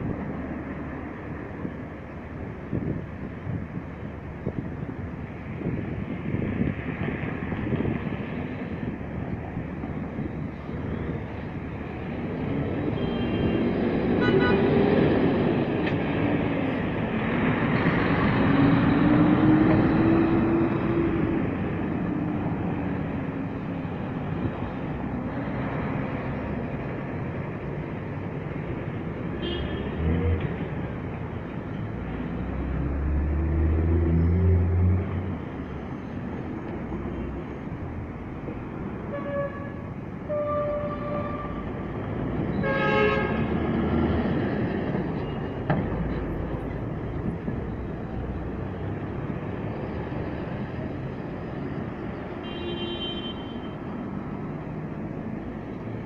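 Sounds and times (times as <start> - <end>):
buses and cars passing: 0.0 - 56.0.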